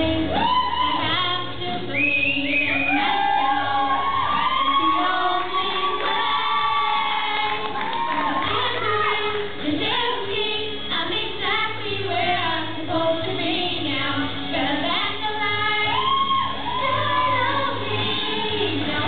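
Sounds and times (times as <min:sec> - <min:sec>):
girls singing through pa: 0:00.0 - 0:19.0.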